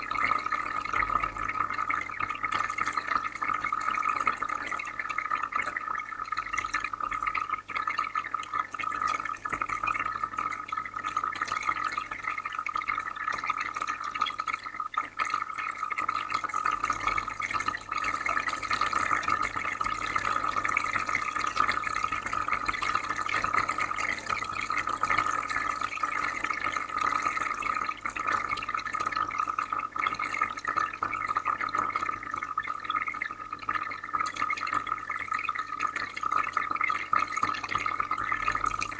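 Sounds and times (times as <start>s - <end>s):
aquarium water bubbling: 0.0s - 38.9s.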